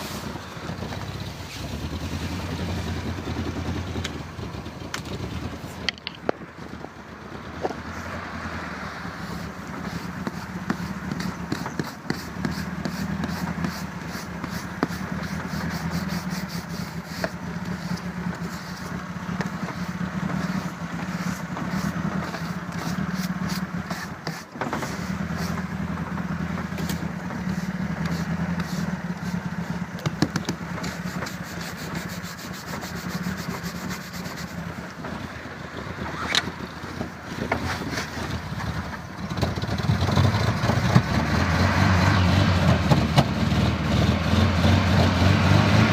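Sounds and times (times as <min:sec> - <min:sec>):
engine cranking: 0:00.0 - 0:07.8, 0:09.2 - 0:41.4.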